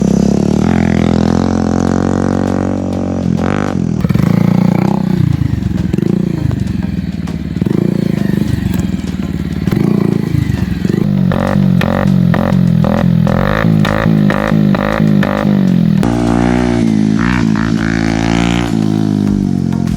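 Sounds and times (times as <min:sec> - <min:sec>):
motorcycle engine revving: 0:00.0 - 0:19.9
music with a steady beat: 0:00.0 - 0:19.9.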